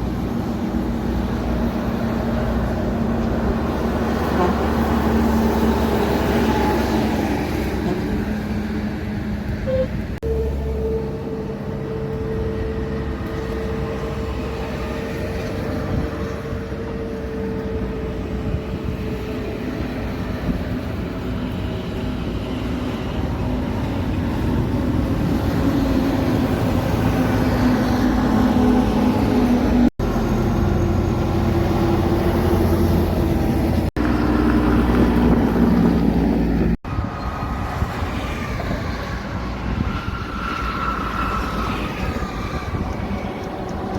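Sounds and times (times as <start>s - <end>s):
heavy trucks driving by: 0.0s - 43.9s.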